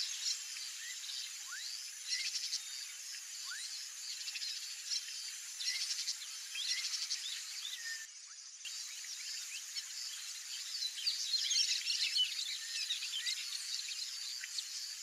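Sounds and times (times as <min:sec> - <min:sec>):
birds chirping chorus: 0:00.0 - 0:15.0.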